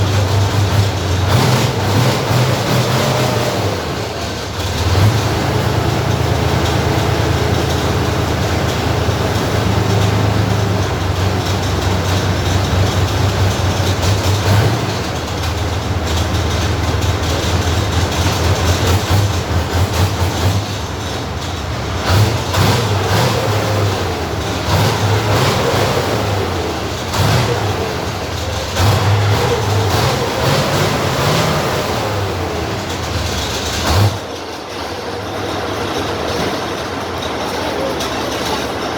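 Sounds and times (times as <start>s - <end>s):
vehicle engine deep drone: 0.0s - 38.9s.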